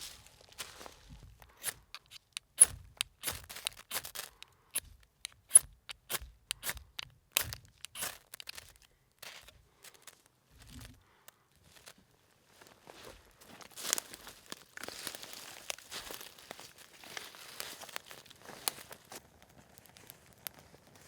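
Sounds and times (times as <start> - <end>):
dry wood snapping and crackling: 0.0 - 11.9, 13.4 - 21.0.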